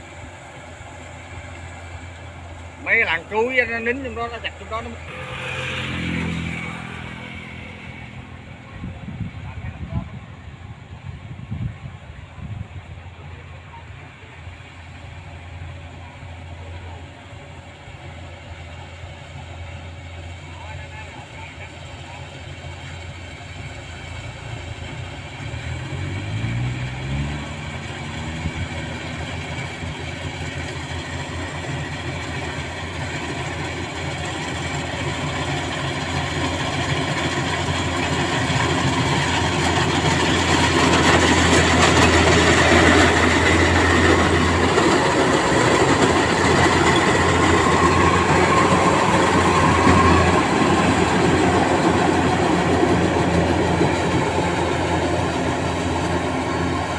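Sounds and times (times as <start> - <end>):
combine harvester engine revving: 0.1 - 9.6, 19.4 - 56.9.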